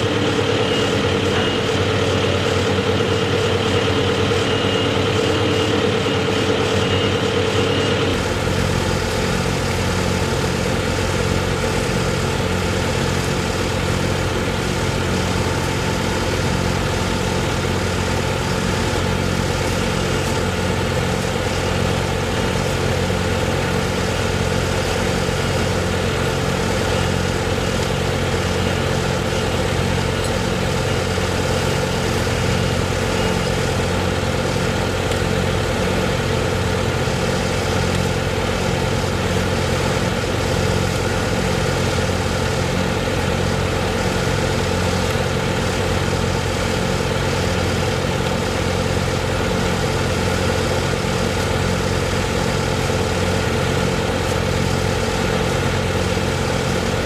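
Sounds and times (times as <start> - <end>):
large engine idling: 0.0 - 57.0.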